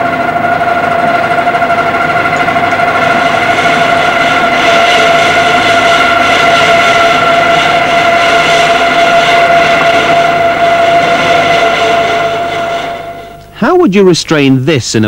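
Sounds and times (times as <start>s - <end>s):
lathe cutting metal whine: 0.0s - 13.6s.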